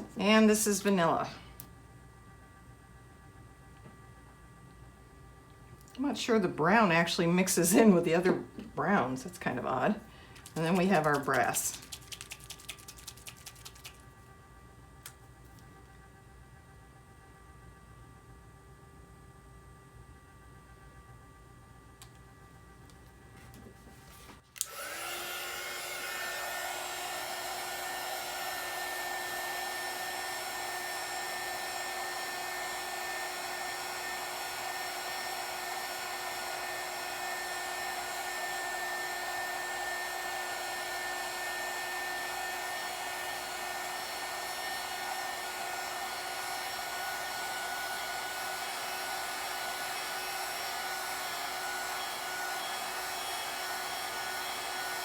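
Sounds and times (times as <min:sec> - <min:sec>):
heat gun fan whine: 0:00.0 - 0:18.3, 0:20.1 - 0:55.0.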